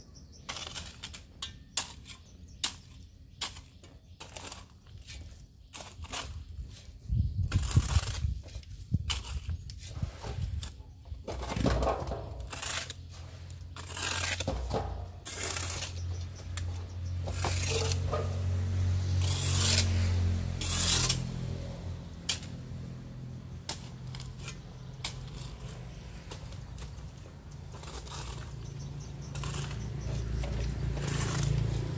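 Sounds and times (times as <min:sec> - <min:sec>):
shovel scraping soil: 0:00.1 - 0:31.9.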